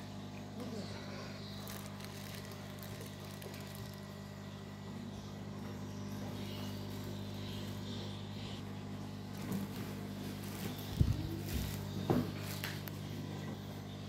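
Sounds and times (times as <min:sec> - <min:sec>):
aquarium pump humming: 0:00.0 - 0:14.0.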